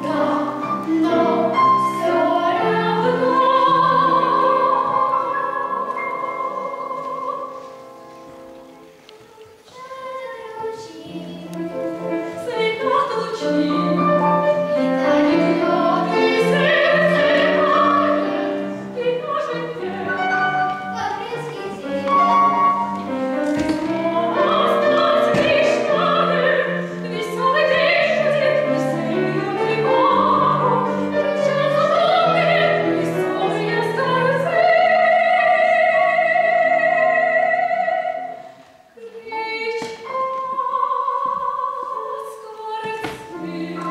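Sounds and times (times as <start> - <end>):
woman singing operatically: 0.0 - 7.6, 9.6 - 14.2, 15.0 - 20.3, 23.9 - 38.4, 39.0 - 43.9
grand piano: 0.0 - 43.9.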